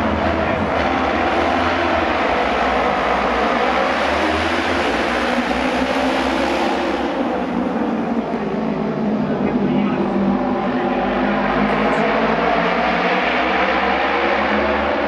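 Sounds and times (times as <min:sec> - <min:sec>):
racing motorcycle engines at full throttle: 0:00.0 - 0:15.0.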